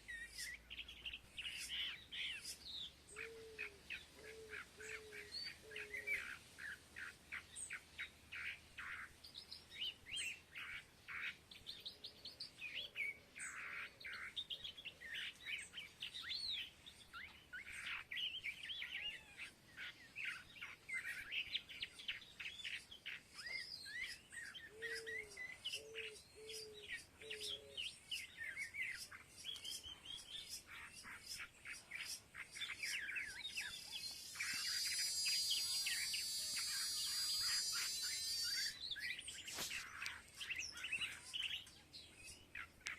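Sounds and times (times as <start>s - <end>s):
lower rounder bird calls: 0.0s - 42.9s
small birds chirping: 0.0s - 42.9s.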